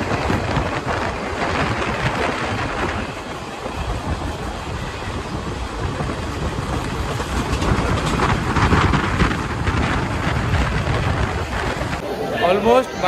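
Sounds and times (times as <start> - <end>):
train wheels rumbling on rails: 0.0 - 13.0
wind on microphone: 0.0 - 13.0.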